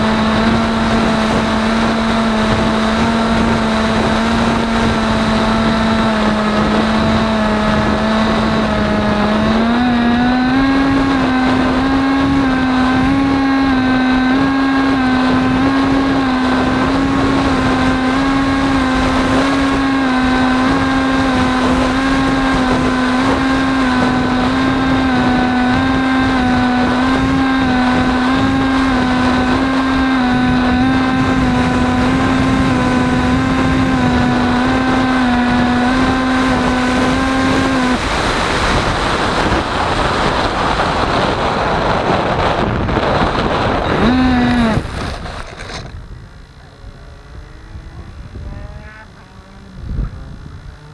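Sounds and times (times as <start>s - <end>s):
model plane motor droning: 0.0s - 50.9s.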